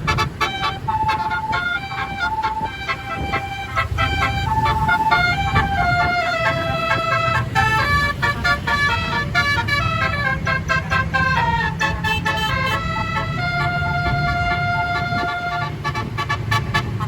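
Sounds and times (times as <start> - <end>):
bus musical horn playing tune: 0.0 - 17.0
low engine rumble: 0.0 - 17.0.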